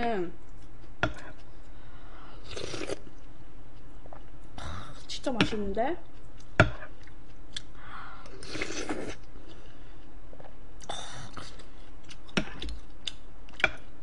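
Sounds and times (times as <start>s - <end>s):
person chewing: 0.4s - 5.1s, 6.0s - 14.0s.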